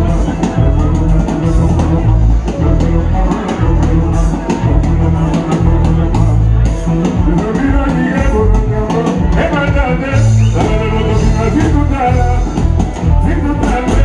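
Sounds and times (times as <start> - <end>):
live band music over pa system: 0.0 - 14.0
person singing: 0.0 - 14.0.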